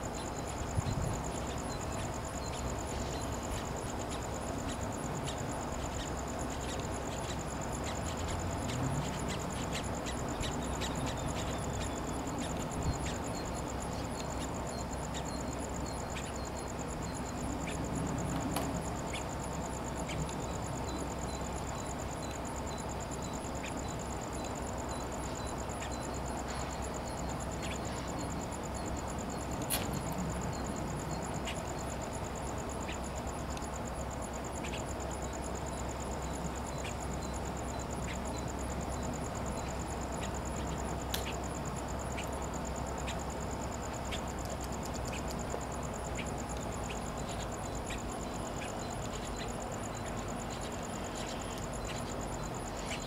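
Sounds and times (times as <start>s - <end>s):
insects buzzing high-pitched: 0.0s - 53.0s.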